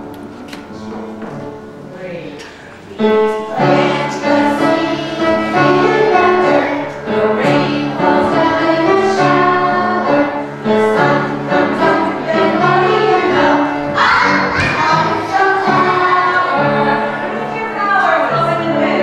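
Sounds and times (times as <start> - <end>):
choir singing: 3.0 - 19.0.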